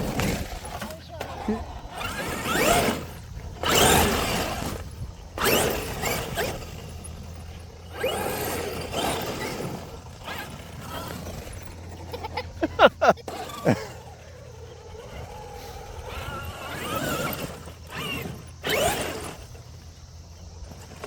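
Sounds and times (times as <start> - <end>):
electric motor whining: 0.0 - 21.0
tyre noise: 0.0 - 21.0.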